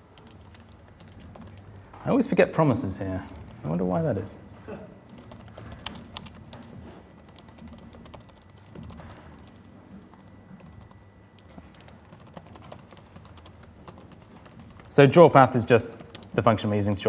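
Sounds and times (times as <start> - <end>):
laptop keyboard typing: 0.0 - 1.9, 3.0 - 4.0, 5.0 - 17.0
low room hum: 0.0 - 17.0.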